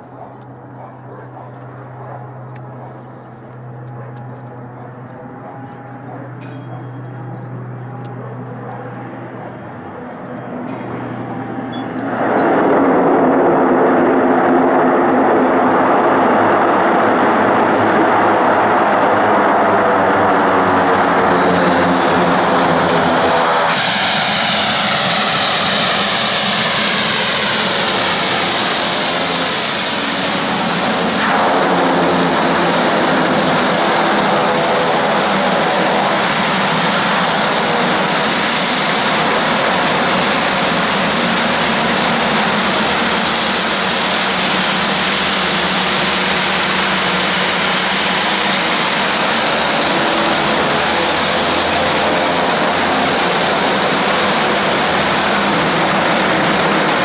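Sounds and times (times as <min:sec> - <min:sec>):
turboprop engines running: 0:00.0 - 0:57.0.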